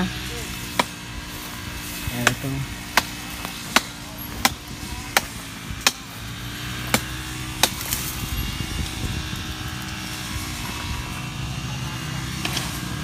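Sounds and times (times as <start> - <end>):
cutting strokes at wood: 0.0 - 13.0.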